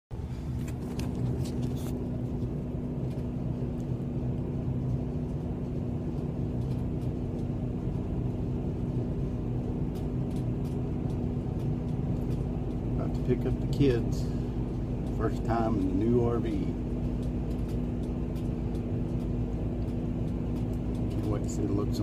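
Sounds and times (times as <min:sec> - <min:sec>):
vehicle engine rumble and hum: 0:00.1 - 0:22.0.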